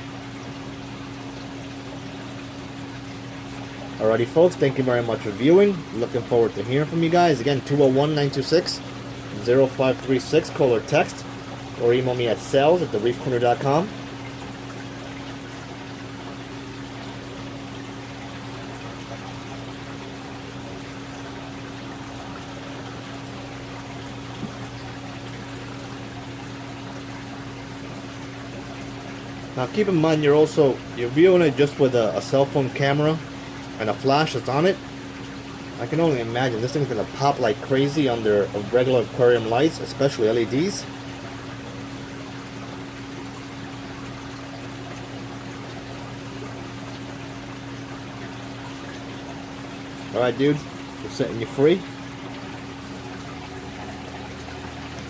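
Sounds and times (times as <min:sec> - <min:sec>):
aquarium water trickling: 0:00.0 - 0:55.0
pump humming: 0:00.0 - 0:55.0.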